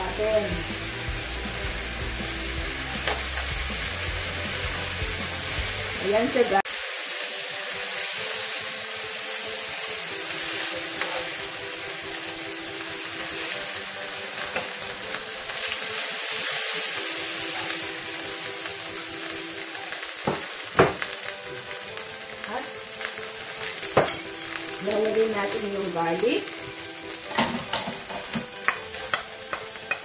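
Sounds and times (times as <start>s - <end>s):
steak sizzling in a frying pan: 0.0s - 30.0s.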